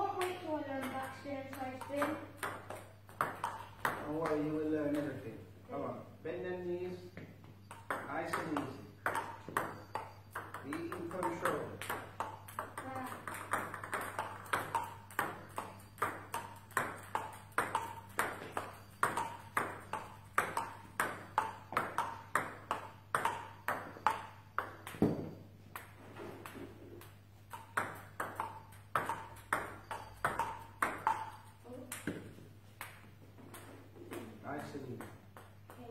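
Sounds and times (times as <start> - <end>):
table tennis ball hits: 0.0 - 5.3, 7.5 - 35.9.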